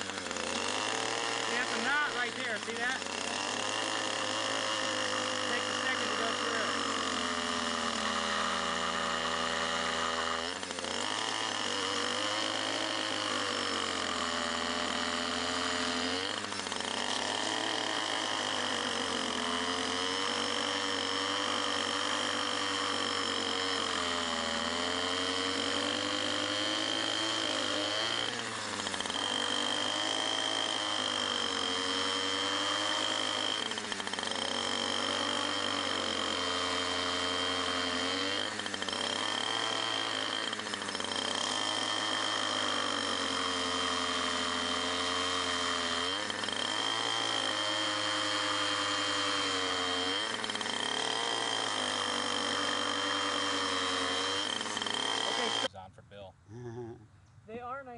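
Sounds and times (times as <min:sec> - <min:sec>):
edger grinding through root: 0:00.0 - 0:55.8, 0:56.5 - 0:57.9.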